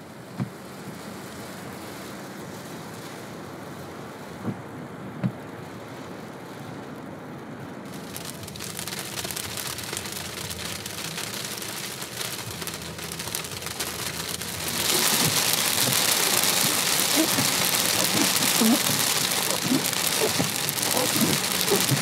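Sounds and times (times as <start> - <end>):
rain and sleet pattering: 0.0 - 22.0.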